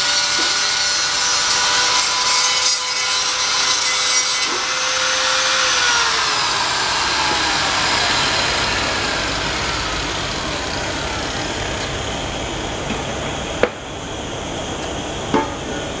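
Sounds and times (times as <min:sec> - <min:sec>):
angle grinder winding down: 0:00.0 - 0:13.4
steady background noise: 0:00.0 - 0:16.0.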